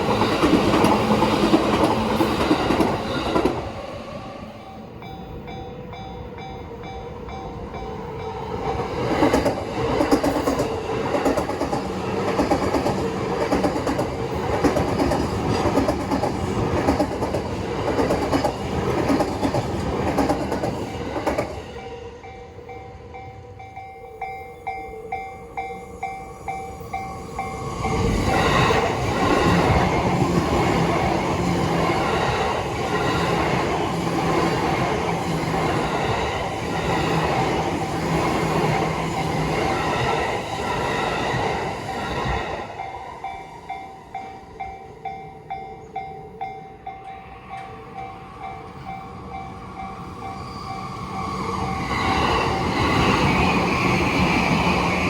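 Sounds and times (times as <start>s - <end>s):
level-crossing warning bell: 4.4s - 53.4s.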